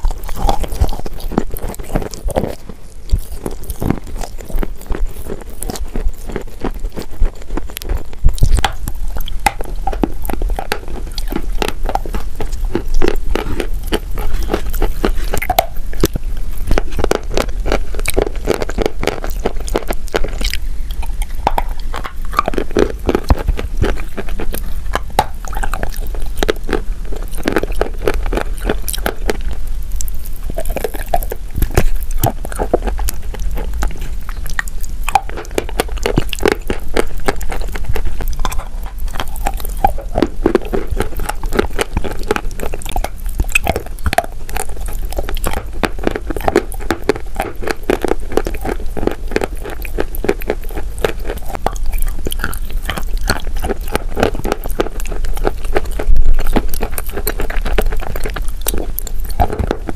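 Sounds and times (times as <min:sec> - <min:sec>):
chewing crunches: 0:00.0 - 0:59.9.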